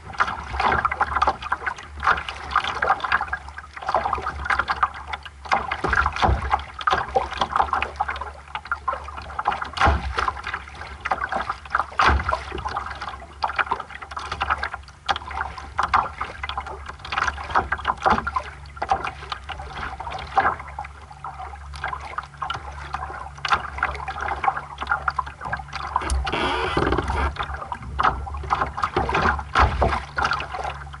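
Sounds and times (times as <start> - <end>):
water splashing against hull: 0.0 - 31.0.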